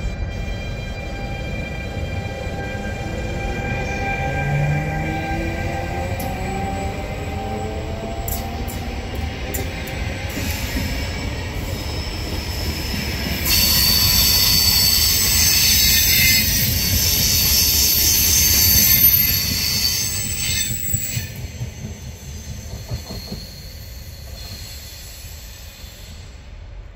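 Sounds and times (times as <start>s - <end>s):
train wheels rumbling: 0.0s - 26.9s
high-pitched wheel squeal: 0.4s - 26.2s.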